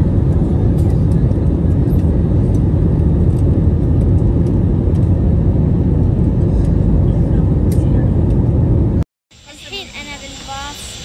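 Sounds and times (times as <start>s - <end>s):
jet engines roaring in cabin: 0.0s - 11.0s.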